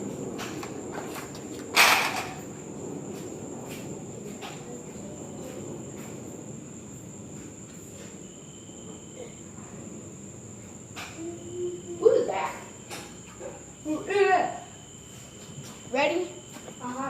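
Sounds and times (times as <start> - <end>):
crickets chirping: 0.0 - 17.0
low outdoor noise: 0.0 - 17.0.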